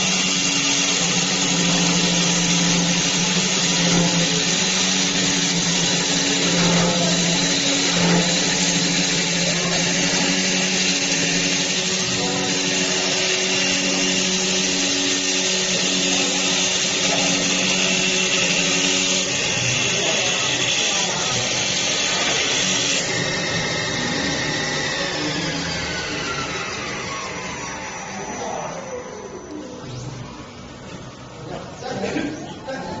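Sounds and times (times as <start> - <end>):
lathe motor hum: 0.0 - 31.4.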